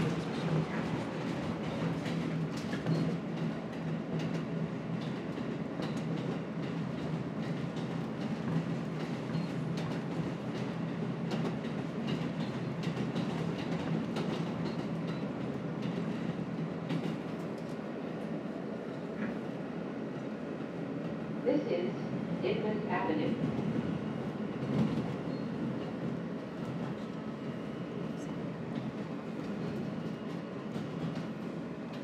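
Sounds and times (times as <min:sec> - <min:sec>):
subway train running: 0:00.0 - 0:32.0.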